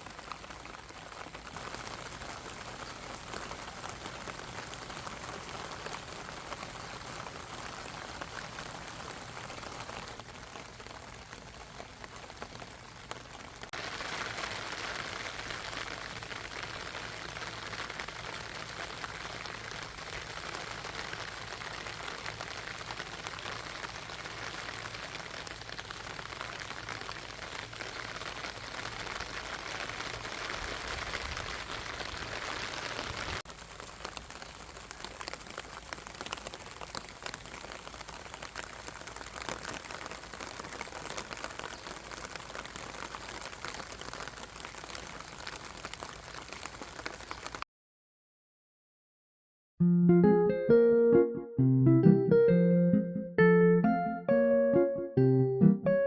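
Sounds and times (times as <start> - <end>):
rain falling: 0.0 - 47.6.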